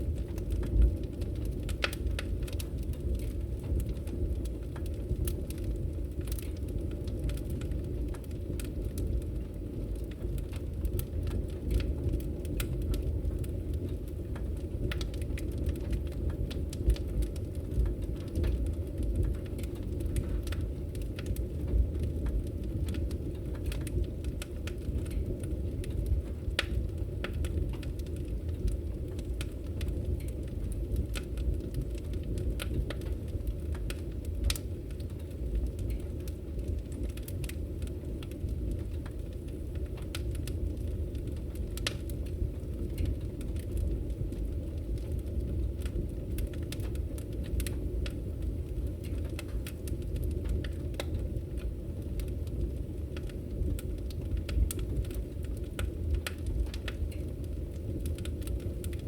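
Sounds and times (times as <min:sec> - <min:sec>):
firewood crackling and popping: 0:00.0 - 0:59.0
flames rumbling: 0:00.0 - 0:59.0.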